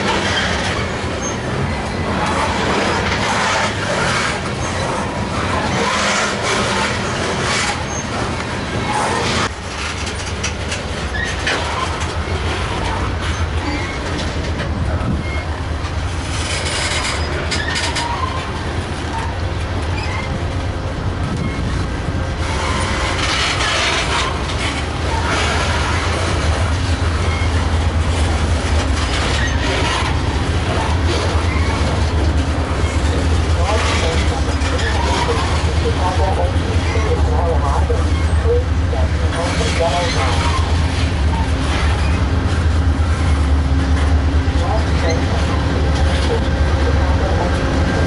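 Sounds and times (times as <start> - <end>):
train cars rolling on rails: 0.0 - 48.0.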